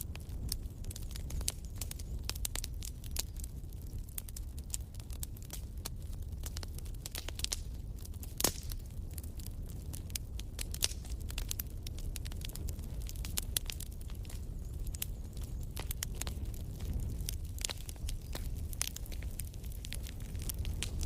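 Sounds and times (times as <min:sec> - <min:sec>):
fire crackling in a fireplace: 0:00.0 - 0:21.0.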